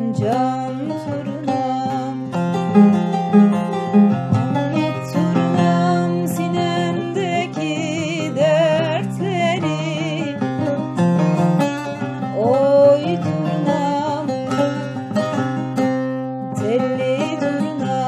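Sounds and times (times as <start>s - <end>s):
folk song with plucked strings: 0.0s - 18.0s.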